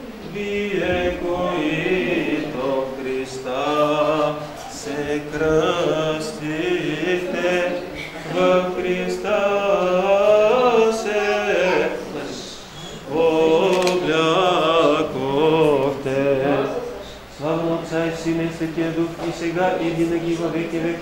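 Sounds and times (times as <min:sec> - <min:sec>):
liturgical chant: 0:00.0 - 0:21.0.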